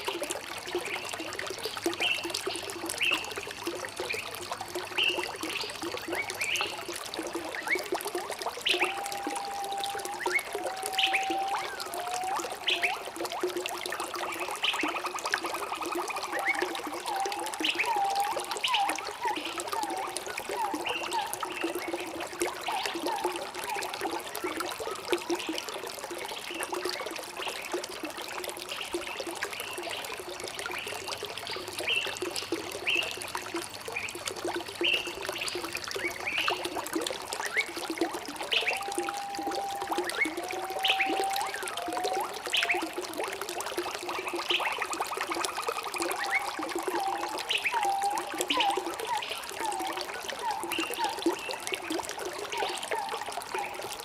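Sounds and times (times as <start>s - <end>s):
water trickling and pouring: 0.0s - 54.0s.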